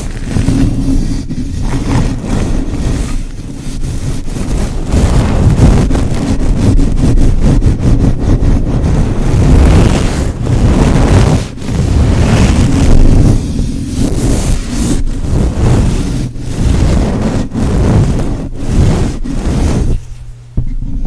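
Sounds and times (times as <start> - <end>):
rubbing against microphone: 0.0 - 21.0.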